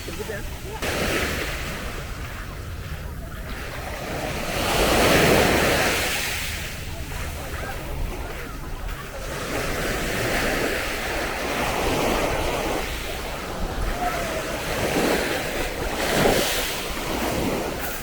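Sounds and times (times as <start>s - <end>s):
small waves breaking on sand: 0.0s - 18.0s
wind rumbling on microphone: 0.0s - 18.0s.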